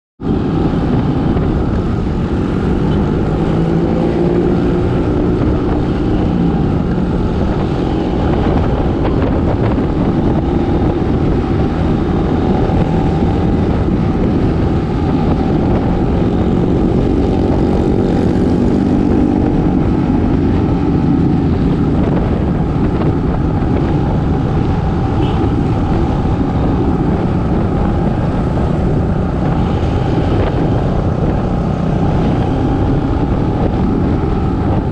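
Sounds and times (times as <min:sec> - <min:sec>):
motorbike engines revving: 0:00.2 - 0:34.9
road noise rumble: 0:00.2 - 0:34.9.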